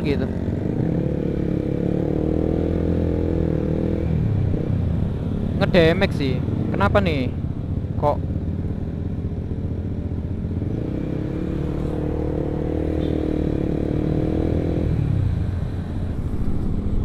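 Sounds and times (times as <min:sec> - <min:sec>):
motorcycle engine: 0:00.0 - 0:17.0
road and wind rumble: 0:00.0 - 0:17.0.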